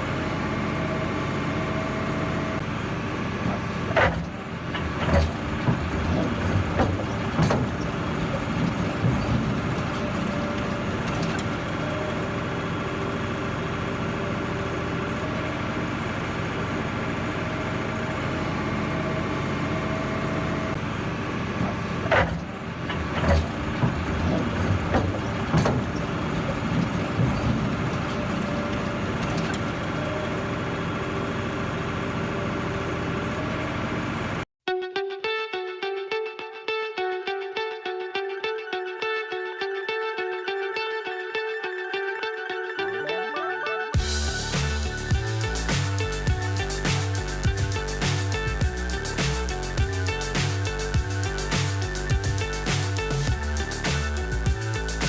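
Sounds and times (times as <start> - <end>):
heavy machine engine running: 0.0 - 34.4, 44.0 - 55.0.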